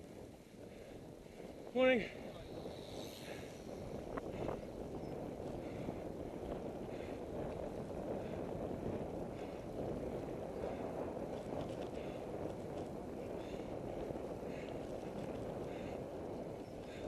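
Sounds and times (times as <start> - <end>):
rumble on gravel track: 0.0 - 17.0
wind buffeting microphone: 0.0 - 17.0.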